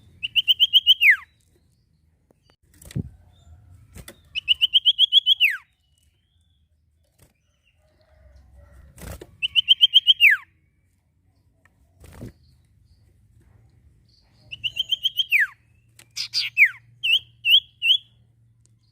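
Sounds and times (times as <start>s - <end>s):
songbird singing: 0.0s - 18.9s.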